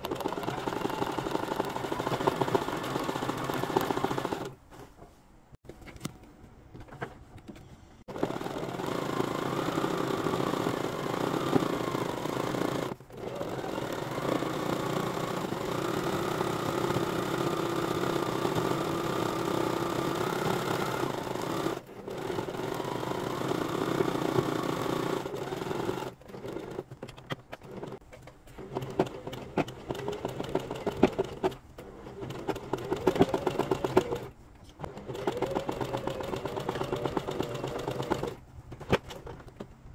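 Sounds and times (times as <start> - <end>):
sewing machine stitching: 0.0 - 4.6, 8.1 - 28.0, 28.6 - 38.4.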